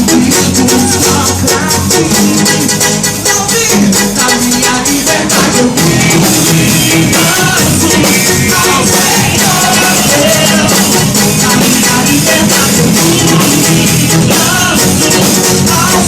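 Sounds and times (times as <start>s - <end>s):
drums: 0.0s - 16.0s
guitar: 0.0s - 16.0s
person singing: 0.0s - 16.0s.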